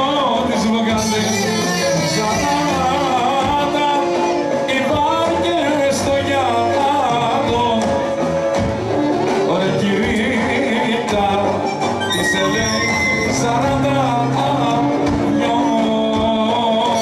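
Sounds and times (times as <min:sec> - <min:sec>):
person singing: 0:00.0 - 0:08.2, 0:09.4 - 0:17.0
band playing dance music: 0:00.0 - 0:17.0.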